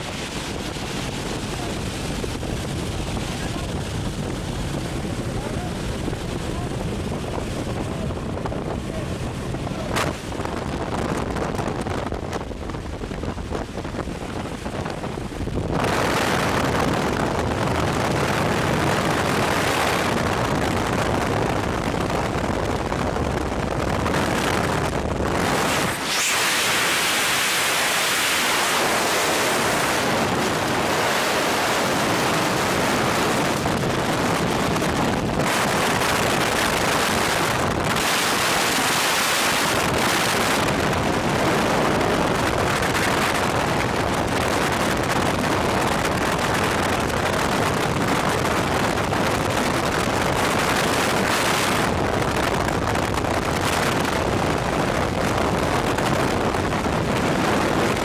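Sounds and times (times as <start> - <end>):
plane engine rumbling: 0.0 - 58.0
wind blasting over microphone: 0.0 - 58.0.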